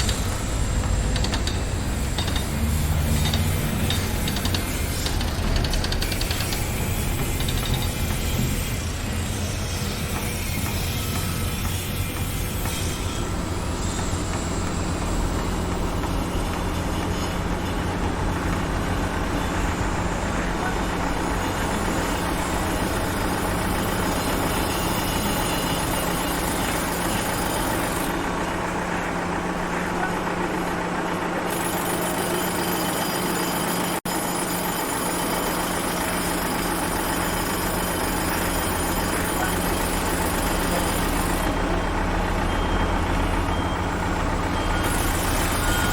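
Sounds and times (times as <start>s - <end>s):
heavy construction machinery running: 0.0s - 45.9s.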